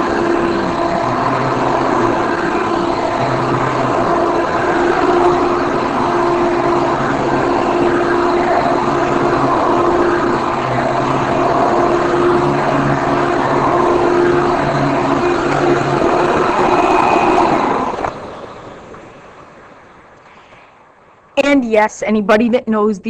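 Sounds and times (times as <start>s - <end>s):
vacuum cleaner running: 0.0s - 19.6s.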